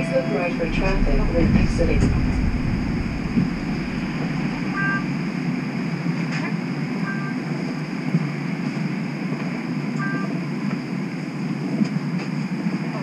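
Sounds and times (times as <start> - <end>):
streetcar interior hum and hiss: 0.0 - 13.0.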